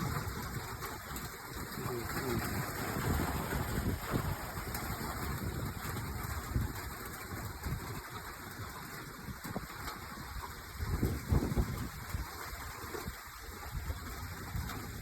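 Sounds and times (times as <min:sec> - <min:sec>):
rain falling: 0:00.0 - 0:15.0
wind gusts on microphone: 0:00.0 - 0:15.0.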